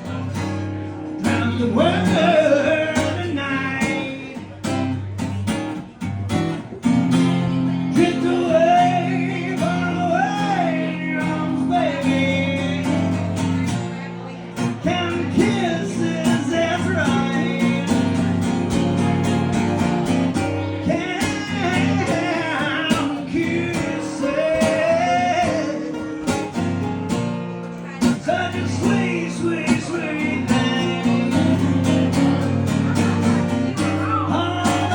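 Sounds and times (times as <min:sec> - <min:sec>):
man singing with vibrato: 0:00.0 - 0:04.8, 0:07.6 - 0:26.8, 0:27.8 - 0:34.9
acoustic guitar chords: 0:00.0 - 0:34.9.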